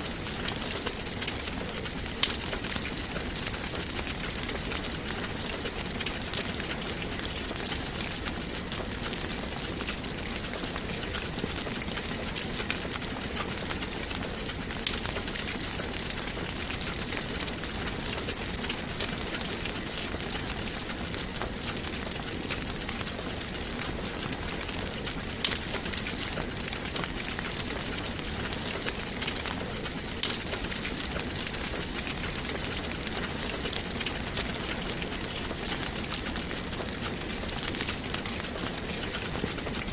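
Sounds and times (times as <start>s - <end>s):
constant hiss: 0.0s - 39.9s
wood fire crackling: 0.0s - 39.9s.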